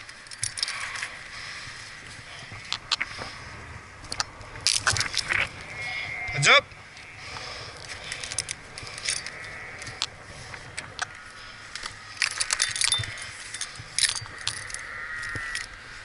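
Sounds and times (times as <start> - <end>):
metal carabiners clinking: 0.0 - 3.0, 4.0 - 6.4, 7.0 - 15.8.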